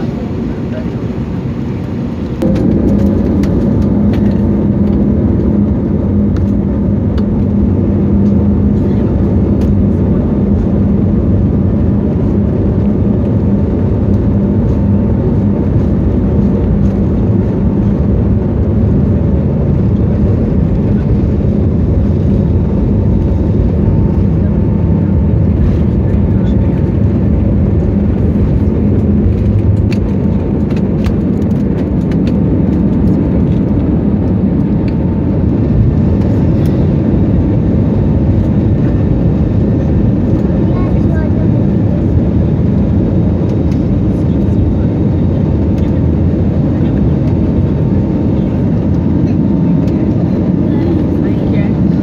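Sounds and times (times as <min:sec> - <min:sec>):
jet airliner cabin hum: 0:00.0 - 0:52.0.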